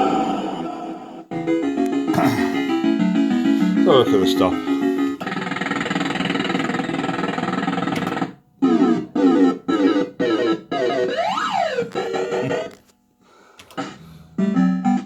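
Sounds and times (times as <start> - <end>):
fruit machine synth tune: 1.3 - 12.9, 13.8 - 15.0.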